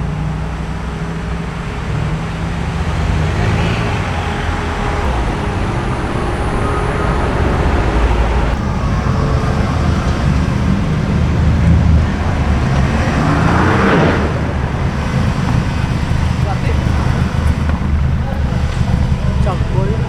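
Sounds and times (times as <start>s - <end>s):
car engines rumbling past: 0.0s - 20.0s.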